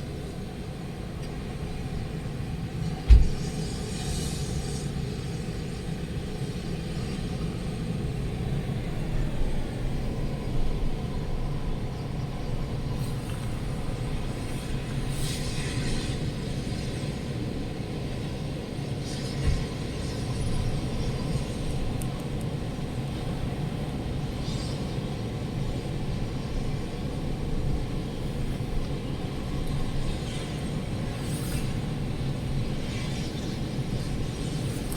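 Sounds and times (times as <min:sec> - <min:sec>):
storm wind buffeting microphone: 0:00.0 - 0:34.9.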